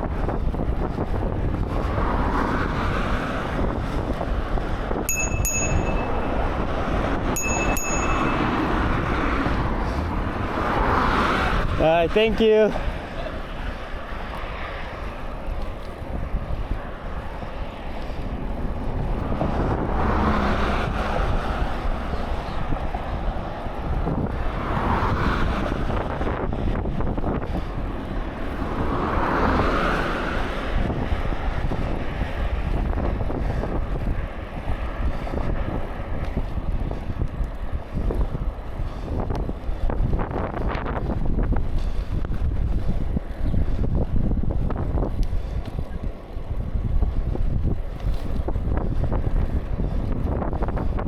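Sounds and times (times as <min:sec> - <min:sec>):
wind rushing over microphone: 0:00.0 - 0:51.0.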